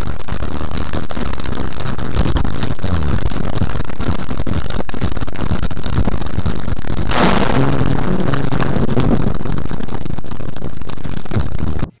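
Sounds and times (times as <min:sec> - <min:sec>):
scattered crackles: 0:00.0 - 0:12.0.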